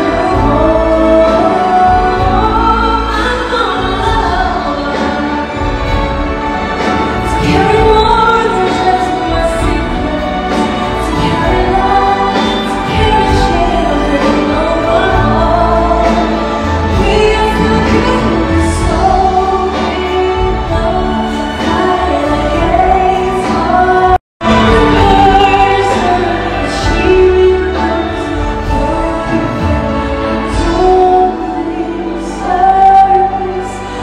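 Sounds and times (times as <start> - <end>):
instrumental accompaniment: 0.0 - 34.0.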